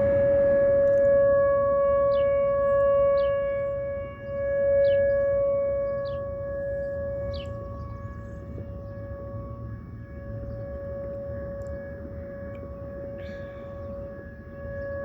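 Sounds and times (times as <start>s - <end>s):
warning siren steady tone: 0.0s - 15.0s.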